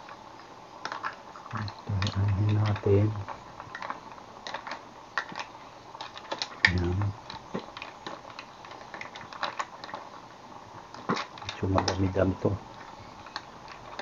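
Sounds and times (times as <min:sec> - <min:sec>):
mussel shells clattering in a pot: 0:00.0 - 0:14.0.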